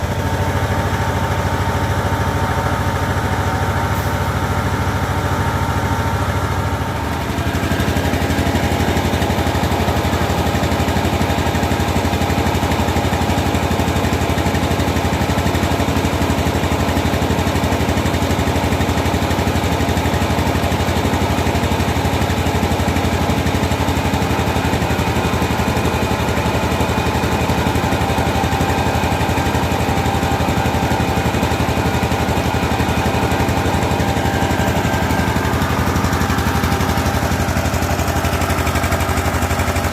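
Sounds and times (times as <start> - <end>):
diesel engine running: 0.0 - 39.9
milling machinery whirring: 0.0 - 39.9.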